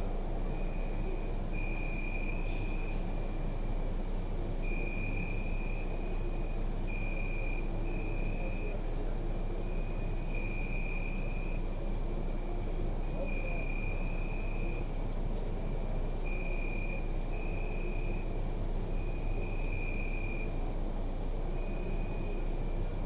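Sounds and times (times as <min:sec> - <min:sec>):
crickets trilling: 0:00.4 - 0:03.5, 0:04.5 - 0:23.0.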